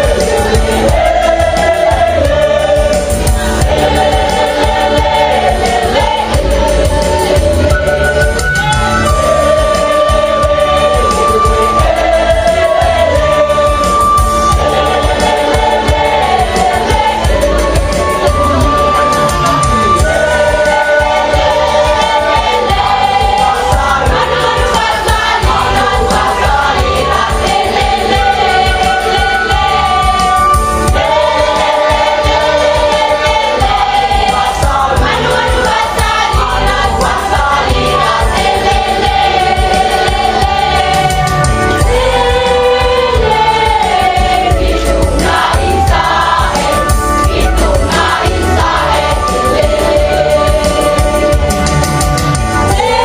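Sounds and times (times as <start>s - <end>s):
choir singing in harmony: 0.0s - 53.0s.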